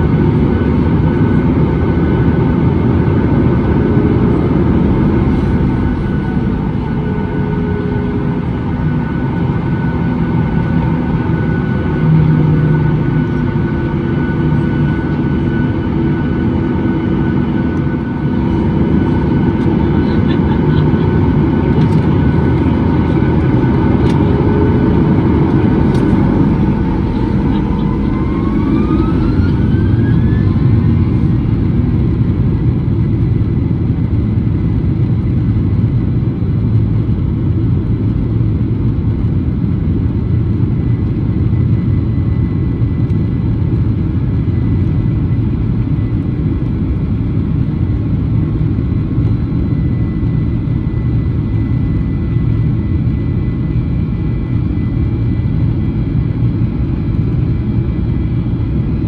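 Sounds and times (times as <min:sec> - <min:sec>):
low cabin rumble: 0:00.0 - 0:56.0
jet engine whine: 0:00.0 - 0:59.0.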